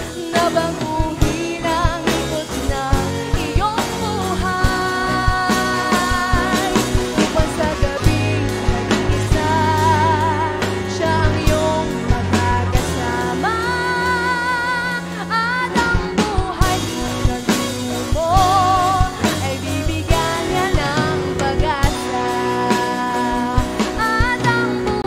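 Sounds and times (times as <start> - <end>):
drum kit steady beat: 0.0 - 25.0
live band playing: 0.0 - 25.0
woman singing: 0.0 - 25.0.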